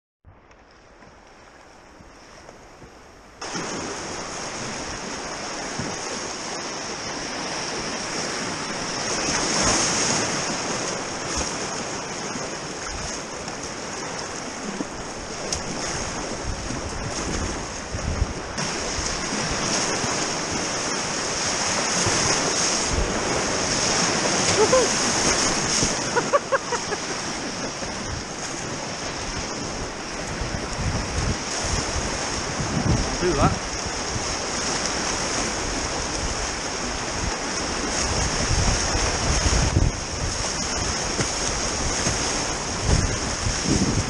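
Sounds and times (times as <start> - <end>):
water splashes: 0.7 - 44.0
whitewater rushing: 3.3 - 44.0.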